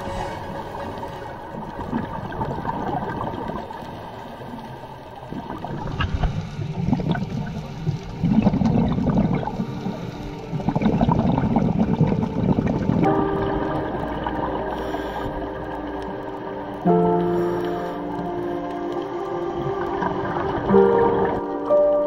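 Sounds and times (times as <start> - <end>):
diver's exhaled bubbles rumbling: 0.0 - 4.2, 5.2 - 17.1, 18.1 - 21.7.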